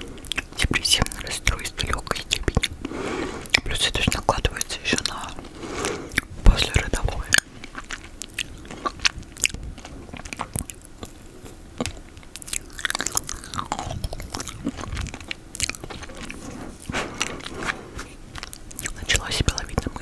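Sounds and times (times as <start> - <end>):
mouth eating sticky food: 0.0 - 20.0.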